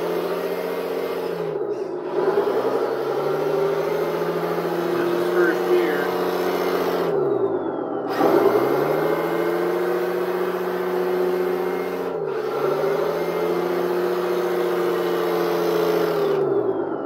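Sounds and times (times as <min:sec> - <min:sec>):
simulated diesel engine through speaker: 0:00.0 - 0:17.0.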